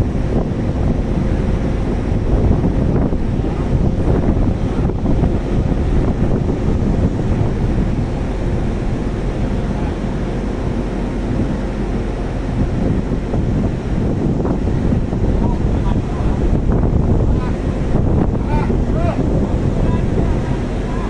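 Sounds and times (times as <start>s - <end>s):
wash of sea water: 0.0s - 21.0s
wind buffeting the microphone: 0.0s - 21.0s.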